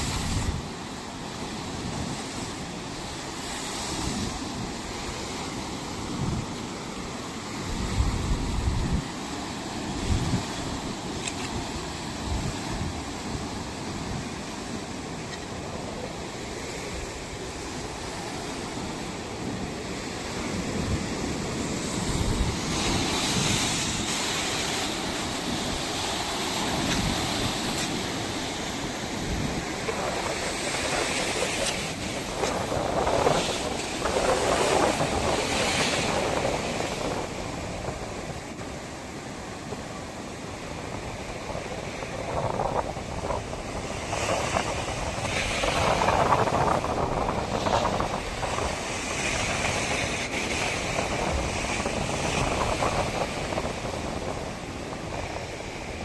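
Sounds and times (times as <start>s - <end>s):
ocean surf breaking on beach: 0.0s - 56.0s
wind buffeting microphone: 0.0s - 56.0s.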